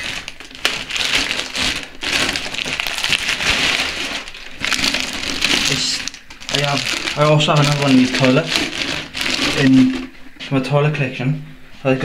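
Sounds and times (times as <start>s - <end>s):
plastic wrapping crinkling: 0.0s - 10.6s.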